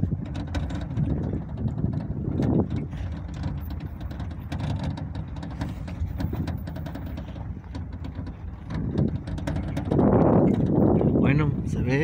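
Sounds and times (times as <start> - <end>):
knocks and rattles from bumps: 0.0 - 11.4.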